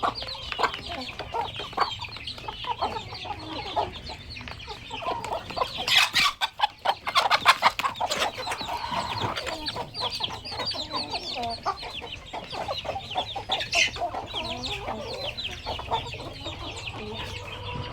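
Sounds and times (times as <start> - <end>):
chickens clucking: 0.0 - 17.9.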